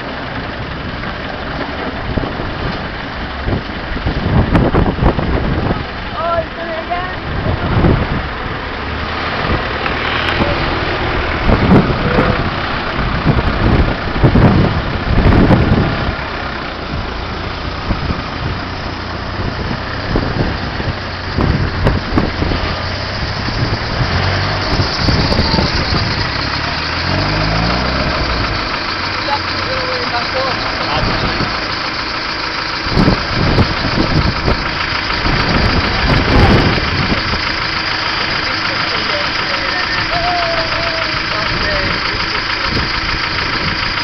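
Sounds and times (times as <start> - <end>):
engine revving hard: 7.4 - 44.0.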